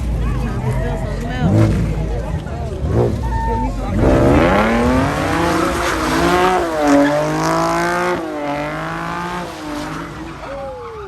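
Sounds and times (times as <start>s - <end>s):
car engine revving hard: 1.2s - 11.0s.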